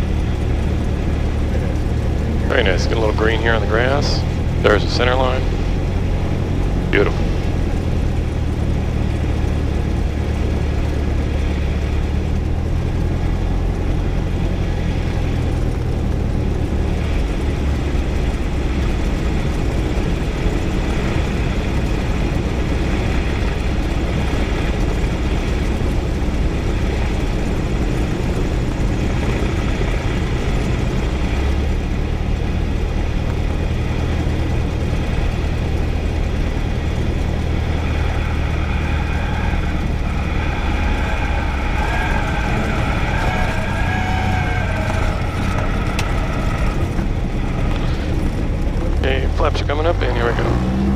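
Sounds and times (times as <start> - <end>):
propeller plane engine running: 0.0 - 50.9.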